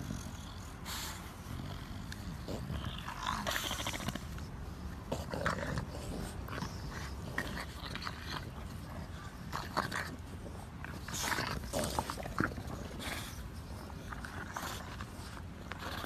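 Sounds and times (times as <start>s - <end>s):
dogs play-wrestling noises: 0.0s - 16.0s.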